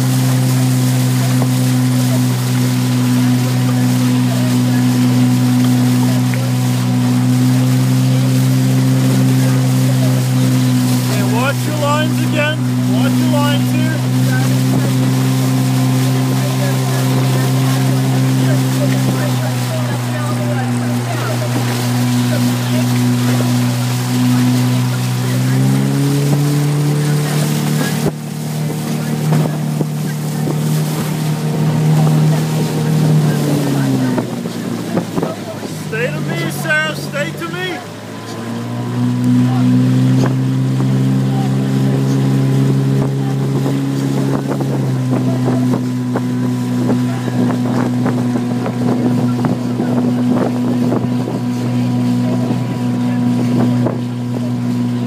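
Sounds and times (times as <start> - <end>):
outboard motor running: 0.0 - 55.0
water noise: 0.0 - 55.0
wind: 0.0 - 55.0.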